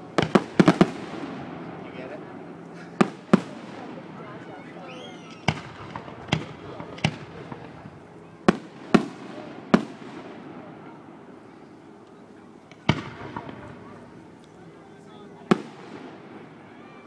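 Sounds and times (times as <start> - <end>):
fireworks bangs with echo: 0.0 - 11.4, 12.7 - 17.0.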